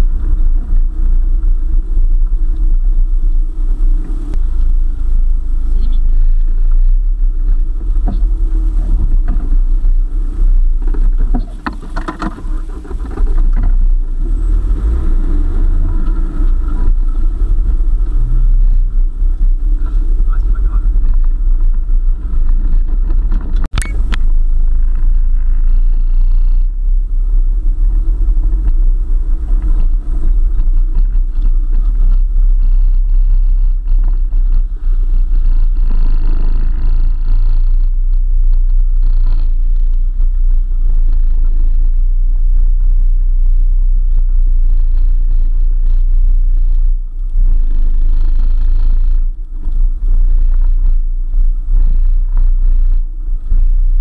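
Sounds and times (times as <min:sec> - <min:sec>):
off-road vehicle engine rumble: 0:00.0 - 0:54.0.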